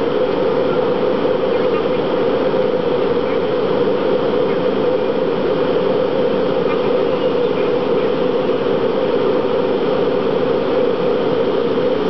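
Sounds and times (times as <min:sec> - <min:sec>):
jet engines droning in cabin: 0:00.0 - 0:12.0.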